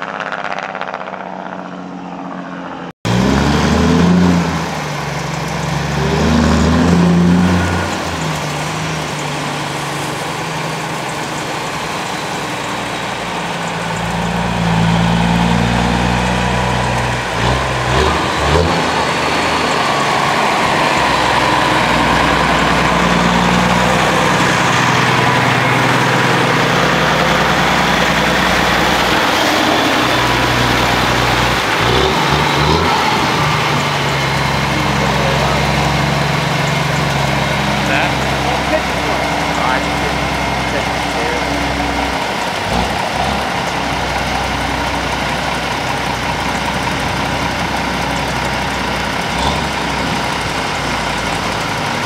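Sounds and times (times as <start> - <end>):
truck diesel engine running: 3.0 - 52.0.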